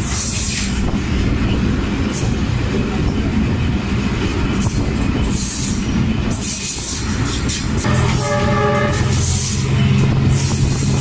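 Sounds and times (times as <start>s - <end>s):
locomotive engine rumble: 0.0s - 11.0s.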